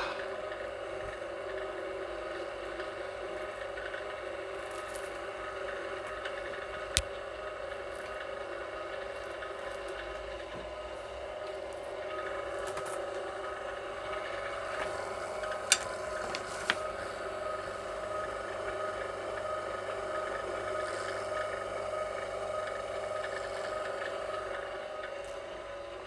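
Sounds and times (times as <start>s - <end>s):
wire stripping machine motor: 0.0s - 26.0s.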